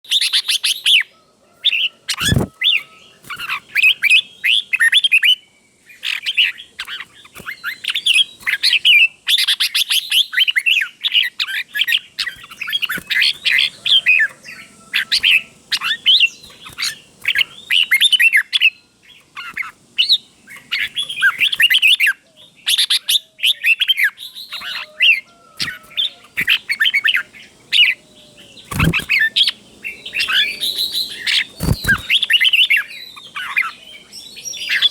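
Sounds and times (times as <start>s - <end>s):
bird singing warbling phrases: 1.7s - 34.9s.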